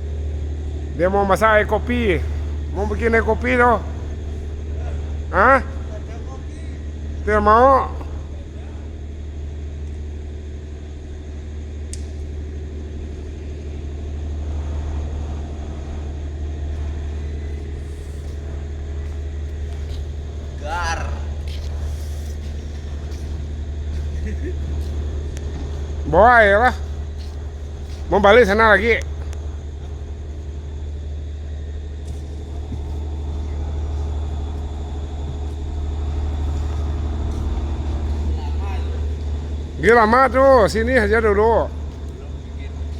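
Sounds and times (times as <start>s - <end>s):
large diesel engine droning: 0.0s - 42.9s.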